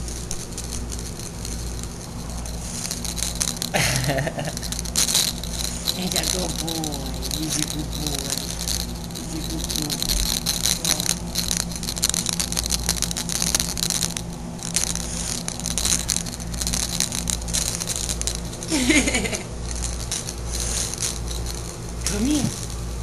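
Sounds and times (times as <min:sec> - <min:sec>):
light rattling and clicking: 0:00.0 - 0:23.0
steady low hum: 0:00.0 - 0:23.0.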